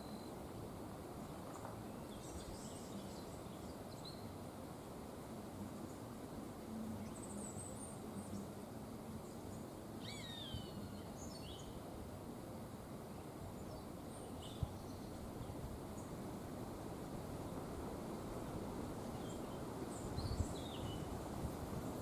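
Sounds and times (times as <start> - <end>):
wind through trees: 0.0 - 22.0.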